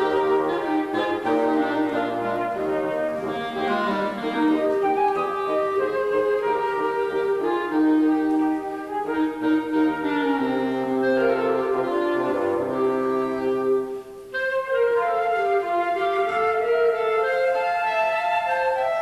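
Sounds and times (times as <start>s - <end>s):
wind ensemble playing a carol: 0.0s - 19.0s.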